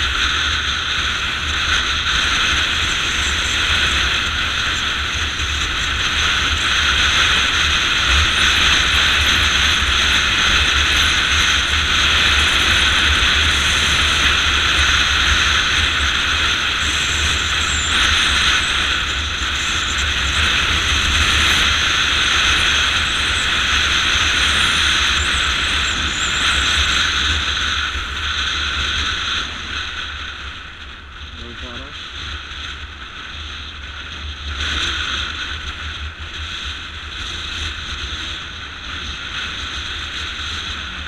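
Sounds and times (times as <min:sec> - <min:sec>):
motorcycle engine and road noise: 0:00.0 - 0:41.0.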